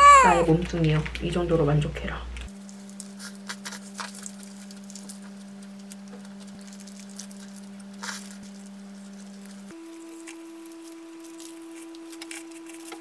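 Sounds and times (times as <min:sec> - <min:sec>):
chewing and crunching food: 0:02.5 - 0:13.0.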